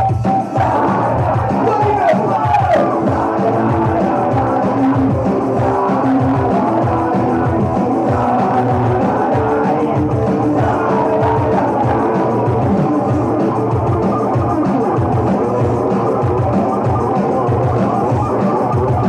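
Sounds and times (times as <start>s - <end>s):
live punk rock: 0.0s - 19.0s.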